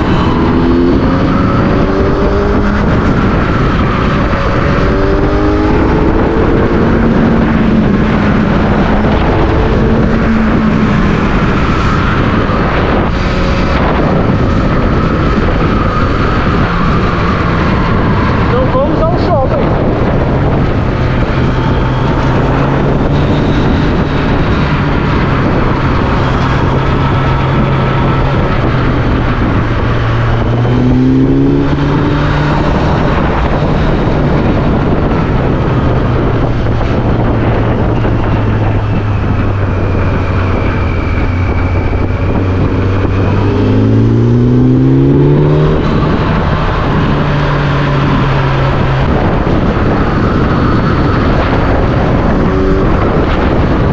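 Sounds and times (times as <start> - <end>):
vehicle engine accelerating: 0.0 - 53.9
wind and road noise: 0.0 - 53.9.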